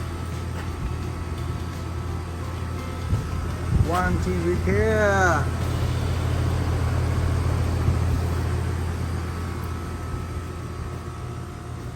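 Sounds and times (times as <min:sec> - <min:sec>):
air conditioner humming: 0:00.0 - 0:11.9.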